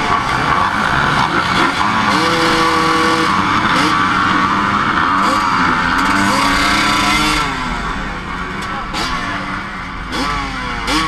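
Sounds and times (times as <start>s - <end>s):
dirt bikes revving and accelerating: 0.0s - 11.0s.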